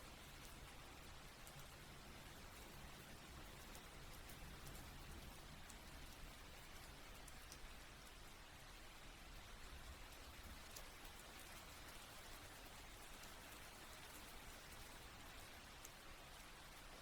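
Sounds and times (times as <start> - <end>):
faint rain hiss: 0.0 - 17.0.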